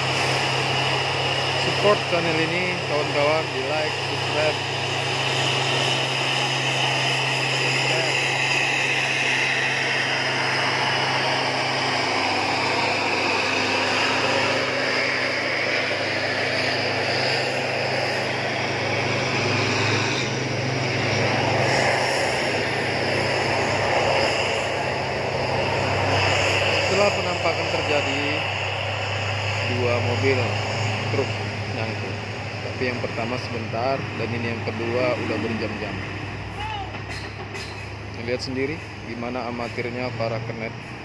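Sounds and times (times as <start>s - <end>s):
heavy truck engines droning: 0.0s - 41.0s
traffic road noise: 0.0s - 41.0s.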